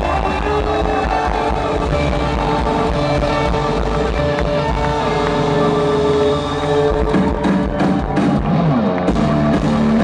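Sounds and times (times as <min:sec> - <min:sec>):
electric guitar sustained notes: 0:00.0 - 0:10.0
rock band playing: 0:00.0 - 0:10.0.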